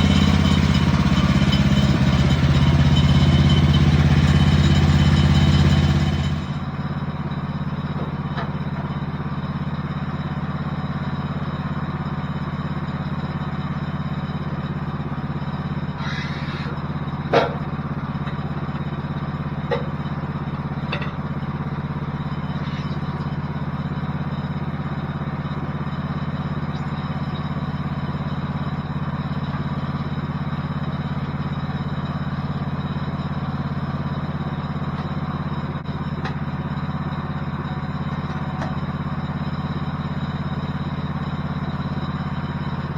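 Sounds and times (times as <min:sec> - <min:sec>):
gasoline engine running: 0:00.0 - 0:42.9.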